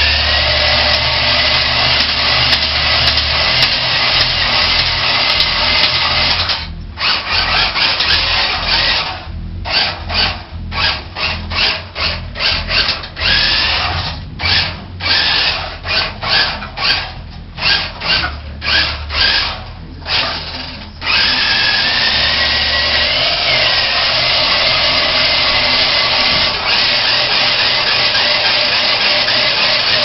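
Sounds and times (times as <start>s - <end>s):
toy truck motor revving with whine: 0.0s - 30.0s.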